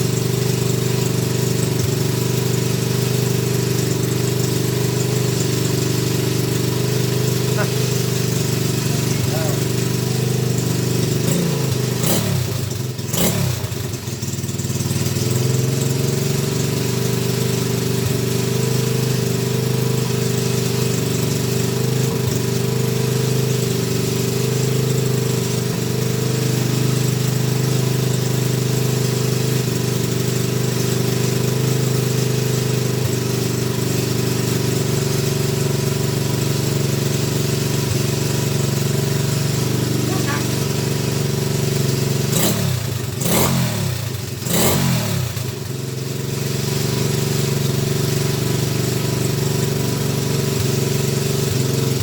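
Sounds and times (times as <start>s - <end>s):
motorbike engine idling: 0.0s - 52.0s.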